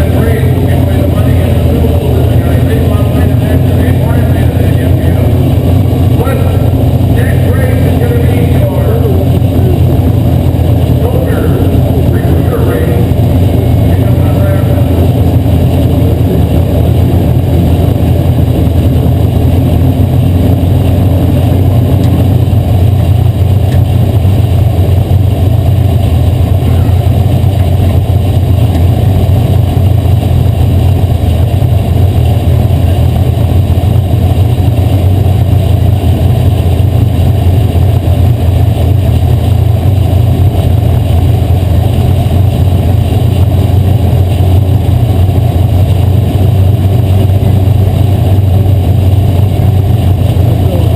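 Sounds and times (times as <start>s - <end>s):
race car engine drone: 0.0s - 50.9s.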